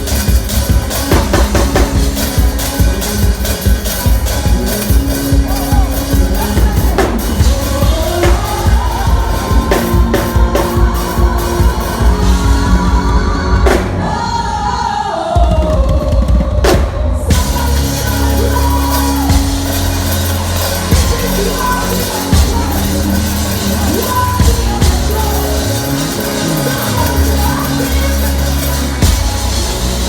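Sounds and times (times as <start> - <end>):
band with drum kit and bass: 0.0 - 30.0
person singing long notes: 0.8 - 30.0.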